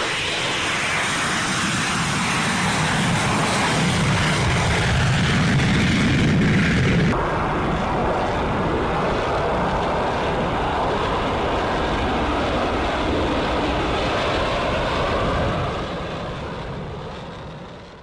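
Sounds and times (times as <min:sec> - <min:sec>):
jet engine taking off: 0:00.0 - 0:18.0.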